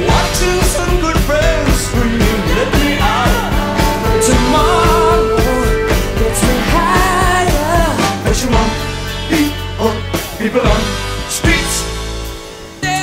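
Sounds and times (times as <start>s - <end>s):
steady drum beat: 0.0s - 12.8s
rock song with vocals: 0.0s - 13.0s.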